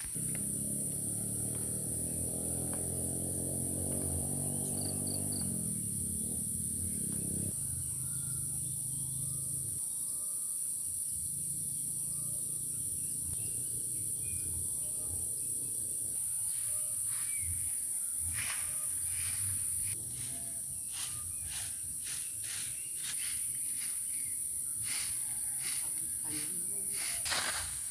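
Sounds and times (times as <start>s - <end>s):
high-pitched insect chorus: 0.0s - 27.9s.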